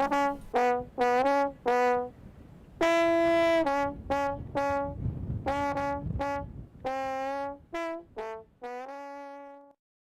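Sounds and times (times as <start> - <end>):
brass horn playing a melody: 0.0 - 9.8.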